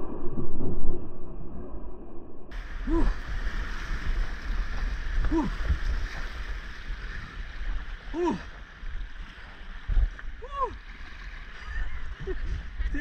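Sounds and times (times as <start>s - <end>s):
low rumble: 0.0s - 13.0s
rushing whitewater: 2.5s - 13.0s.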